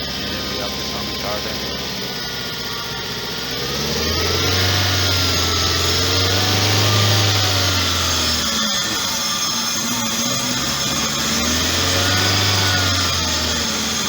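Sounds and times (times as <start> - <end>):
petrol engine running: 0.0 - 14.0.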